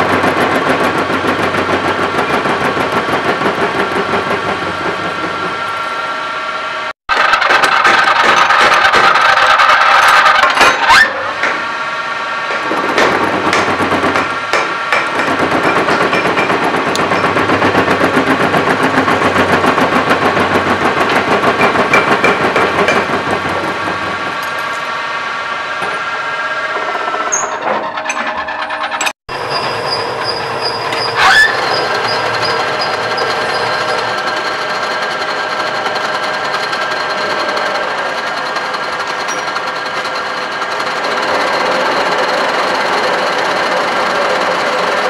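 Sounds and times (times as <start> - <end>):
metal lathe cutting: 0.0 - 45.0.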